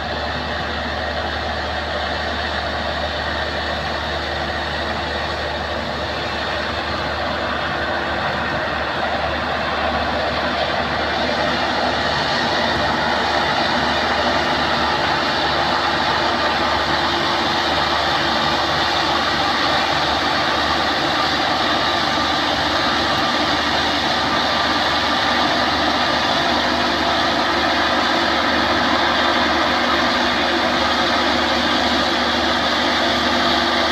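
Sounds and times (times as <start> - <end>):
combine harvester engine running: 0.0 - 33.9.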